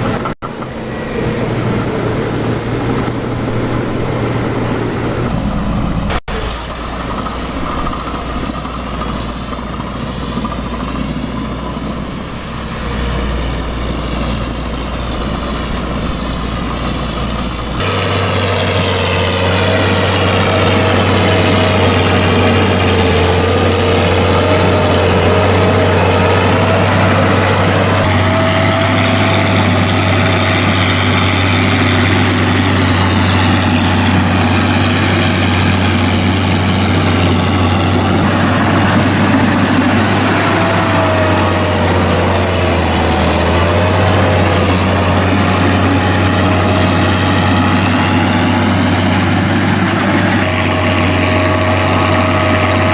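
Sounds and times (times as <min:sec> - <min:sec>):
tractor engine running: 0:00.0 - 0:52.9
thin high whine: 0:00.1 - 0:52.9.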